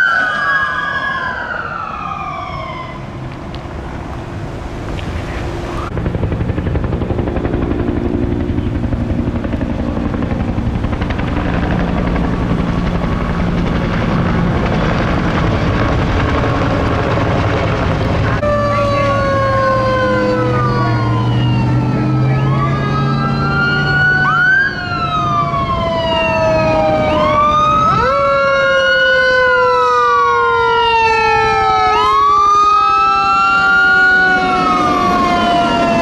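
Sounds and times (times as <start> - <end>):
helicopter flying overhead: 0.0 - 36.0
siren: 0.0 - 36.0.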